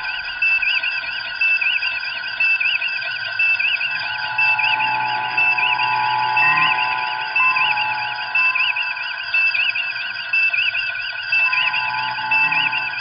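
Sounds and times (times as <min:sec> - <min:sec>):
steady electronic tones: 0:00.0 - 0:13.0
warbling electronic chirp: 0:02.4 - 0:13.0.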